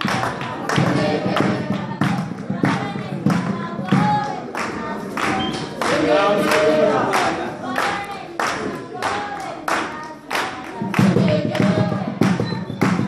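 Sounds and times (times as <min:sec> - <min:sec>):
group singing: 0:00.0 - 0:13.0
hand-clapping: 0:00.0 - 0:13.0.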